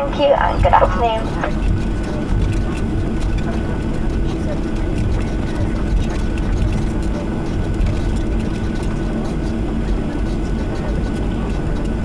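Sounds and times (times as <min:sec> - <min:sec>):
faint high whine: 0:00.0 - 0:12.0
jet engines idling drone: 0:00.0 - 0:12.0
low rumble: 0:00.0 - 0:12.0.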